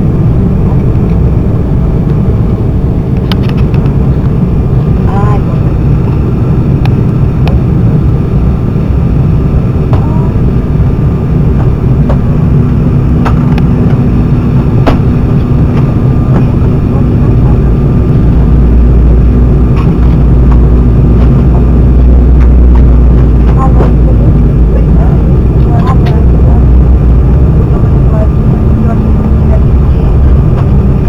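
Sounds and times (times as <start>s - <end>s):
deep rumble: 0.0s - 31.0s
jet engines and rushing air: 0.0s - 31.0s
steady hum: 0.0s - 31.0s.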